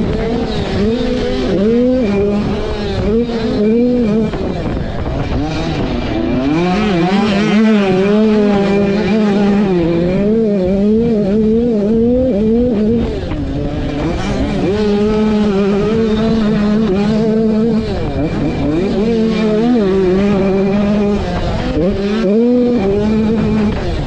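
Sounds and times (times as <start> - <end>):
two-stroke dirt bike engine: 0.0 - 24.0.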